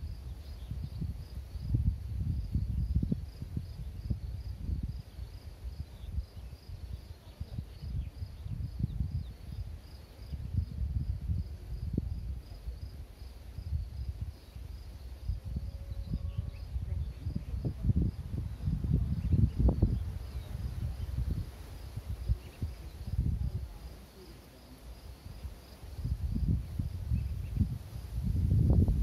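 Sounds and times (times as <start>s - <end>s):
wind buffeting microphone: 0.0s - 23.9s, 25.2s - 29.0s
faint high insect chirping: 0.0s - 29.0s.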